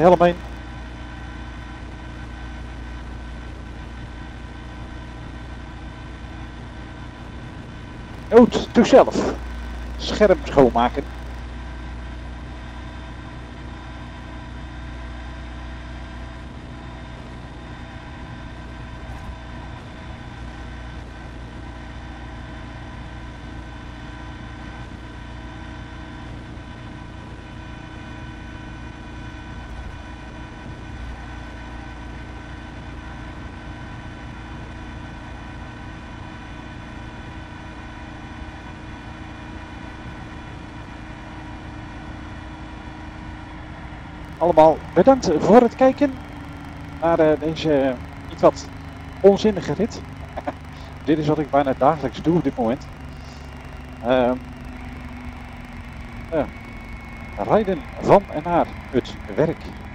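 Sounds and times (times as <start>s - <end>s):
motorcycle engine humming: 0.0s - 59.9s
wind and road noise: 0.0s - 59.9s.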